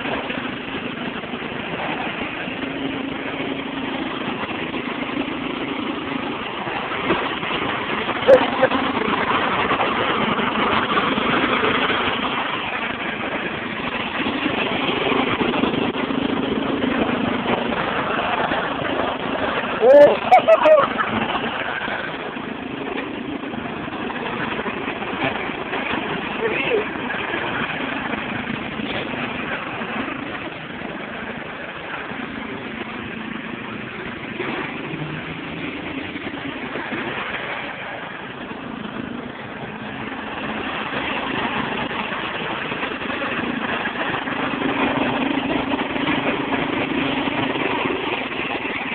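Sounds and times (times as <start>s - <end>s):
lawnmower engine droning: 0.0s - 48.9s.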